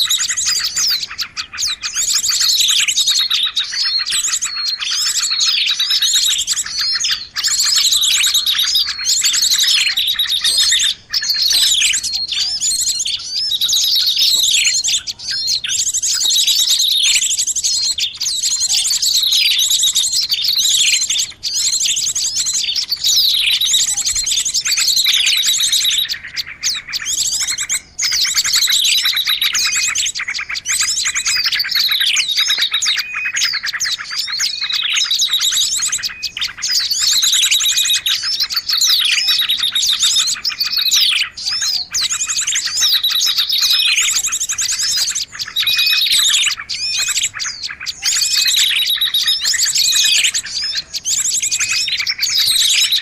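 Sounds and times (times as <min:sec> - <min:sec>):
bird trills: 0:00.0 - 0:53.0
small birds chirping: 0:00.0 - 0:53.0.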